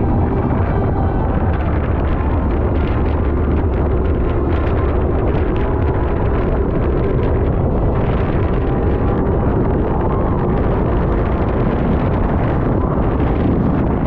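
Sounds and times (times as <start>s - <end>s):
speedboat engine rumble: 0.0s - 14.0s
wind buffeting microphone: 0.0s - 14.0s.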